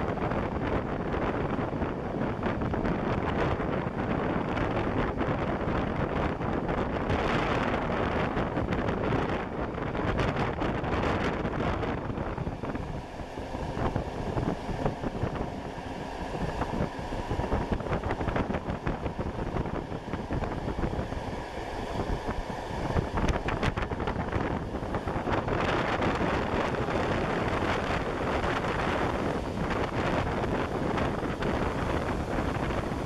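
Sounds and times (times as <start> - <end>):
rushing air: 0.0 - 33.0
train wheels rumbling on rails: 0.0 - 33.0.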